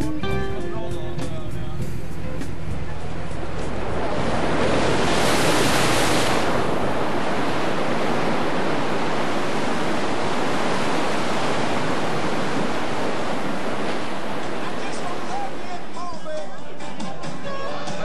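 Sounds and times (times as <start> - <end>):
waves breaking in rough sea: 1.6 - 16.5.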